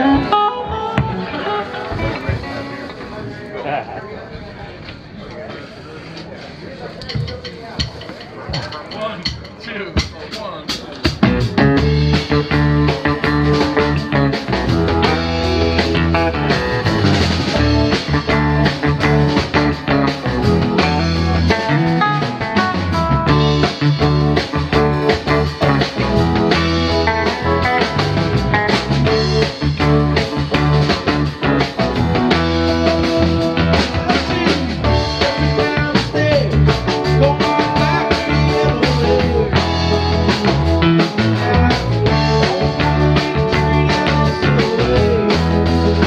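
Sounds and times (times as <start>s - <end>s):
bass line: 0.0s - 2.7s, 11.1s - 46.0s
drums: 0.0s - 3.7s, 4.8s - 46.0s
electric guitar: 0.0s - 3.8s, 11.0s - 46.0s.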